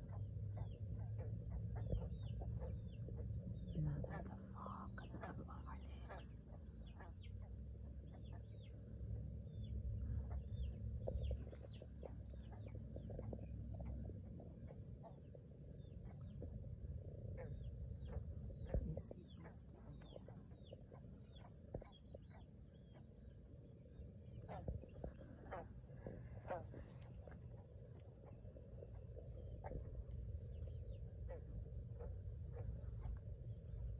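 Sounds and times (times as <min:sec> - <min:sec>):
frogs chirping: 0:00.0 - 0:33.9.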